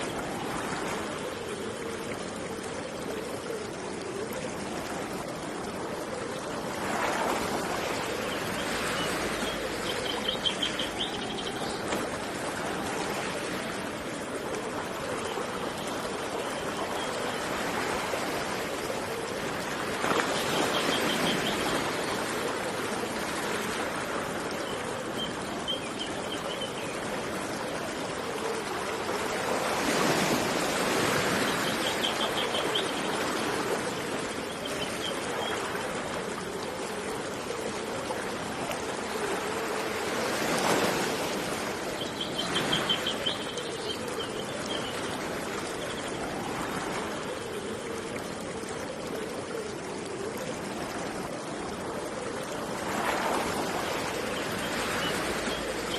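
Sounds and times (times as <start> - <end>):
waves washing in: 0.0 - 55.9.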